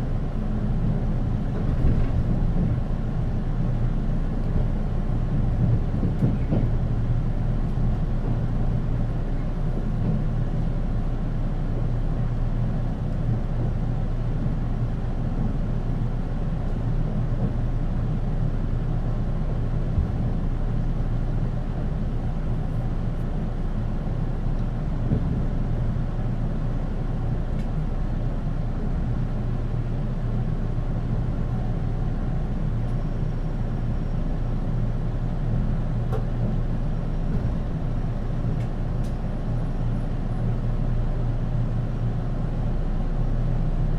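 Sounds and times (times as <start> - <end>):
train wheels and motor rumble: 0.0 - 43.9.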